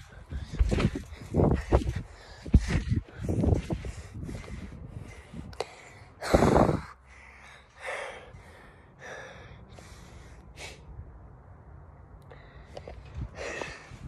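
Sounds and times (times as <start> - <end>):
person breathing hard and gasping: 0.0 - 11.0, 12.2 - 14.0.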